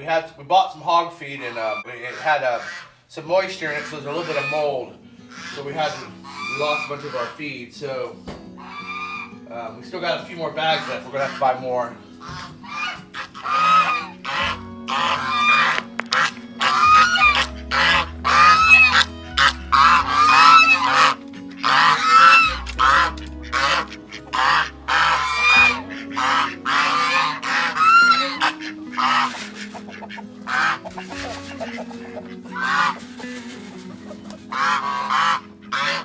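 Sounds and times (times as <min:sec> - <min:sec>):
geese honking: 0:00.0 - 0:36.0
background music: 0:01.3 - 0:36.0.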